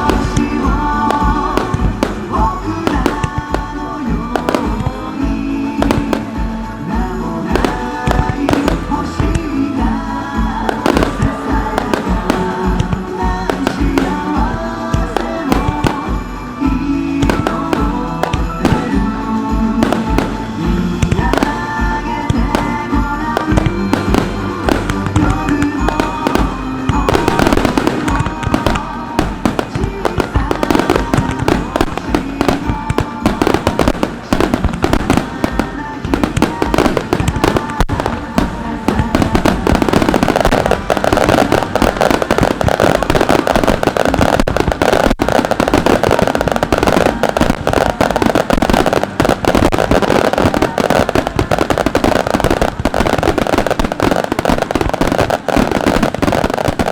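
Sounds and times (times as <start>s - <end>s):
fireworks bursting and crackling: 0.0s - 56.9s
music playing: 0.0s - 56.9s.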